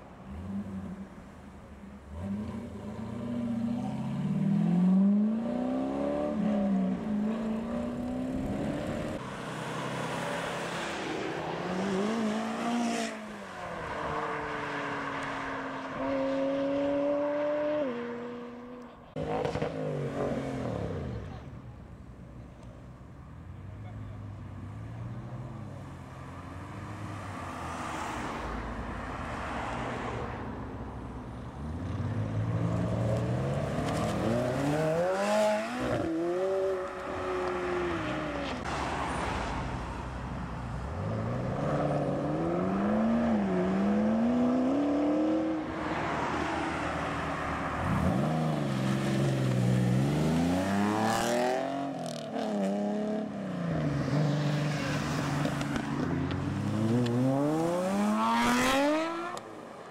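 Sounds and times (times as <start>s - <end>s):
car engines accelerating: 0.0s - 22.7s, 23.3s - 59.9s.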